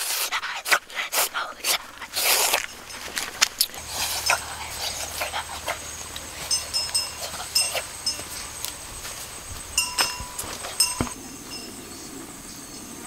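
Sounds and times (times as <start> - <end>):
leaves and twigs rustling: 0.0 - 12.6.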